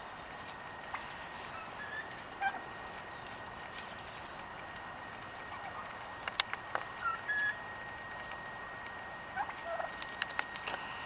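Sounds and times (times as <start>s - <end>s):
turkeys calling softly: 0.0s - 11.0s.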